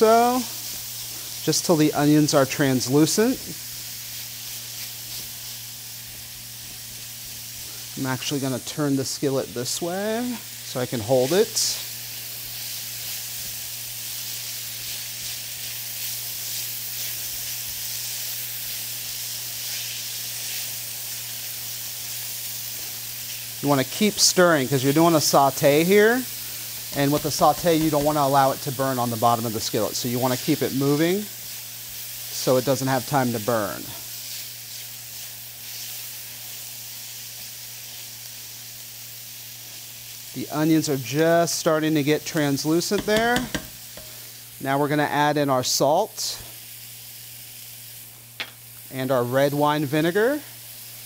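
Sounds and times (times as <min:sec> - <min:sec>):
vegetables sizzling in oil: 0:00.0 - 0:51.0.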